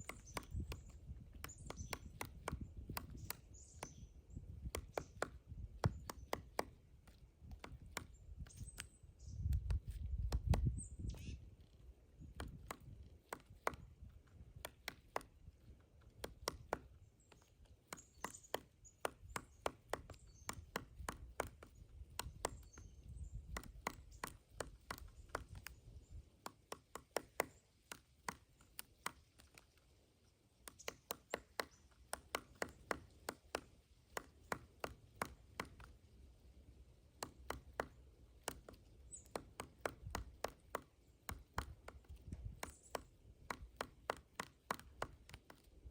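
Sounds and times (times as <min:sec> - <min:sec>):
woodpecker pecking wood: 0:00.0 - 0:45.9.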